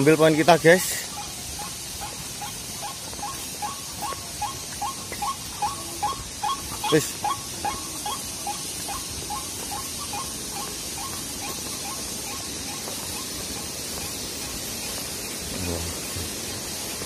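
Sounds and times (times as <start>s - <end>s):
waterhen squawking: 0.0s - 16.2s.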